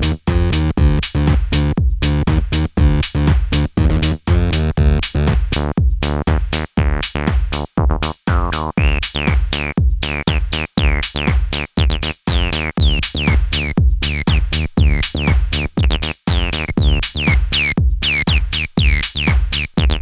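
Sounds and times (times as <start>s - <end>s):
drum machine loop: 0.0s - 20.0s
squelchy acid synth bassline: 0.0s - 20.0s.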